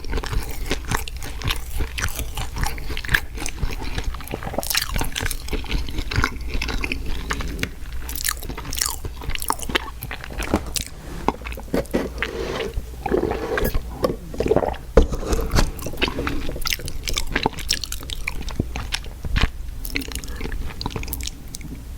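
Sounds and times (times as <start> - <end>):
crunching bites and chewing: 0.0 - 21.8.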